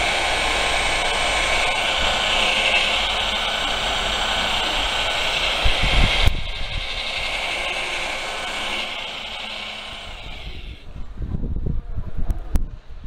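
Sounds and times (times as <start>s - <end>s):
electric polisher motor whine: 0.0s - 10.9s.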